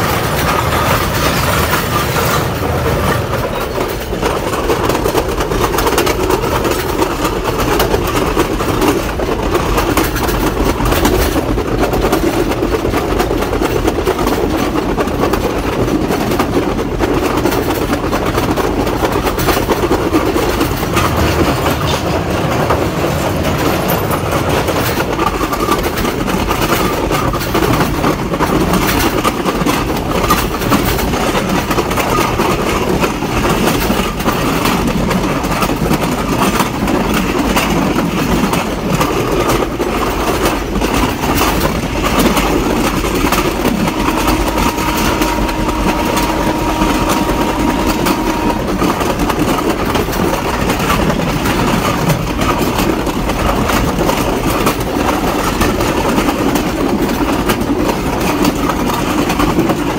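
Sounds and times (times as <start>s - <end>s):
diesel train rumble: 0.0s - 59.9s.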